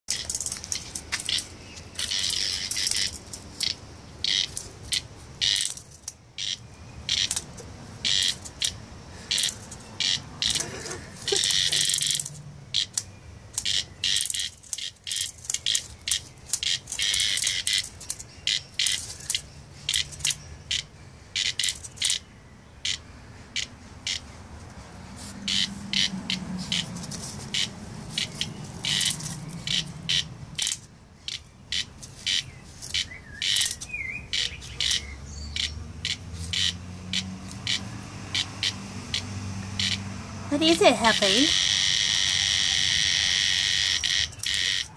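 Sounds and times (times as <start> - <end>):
cicada buzzing: 0.1 - 44.9.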